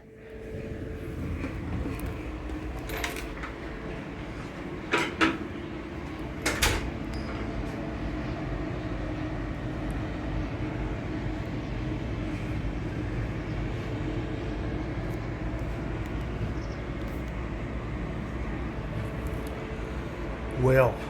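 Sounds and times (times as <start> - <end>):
faint steady hum: 0.0 - 21.0
vehicle rumble in motion: 0.0 - 21.0.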